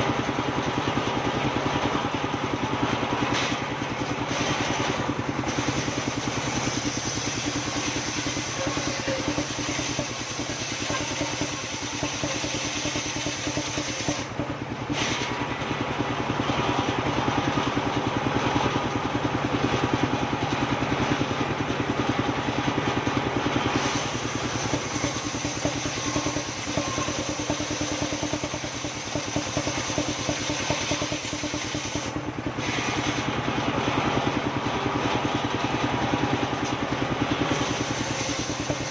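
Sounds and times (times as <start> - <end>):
sawing machine engine running: 0.0 - 38.9.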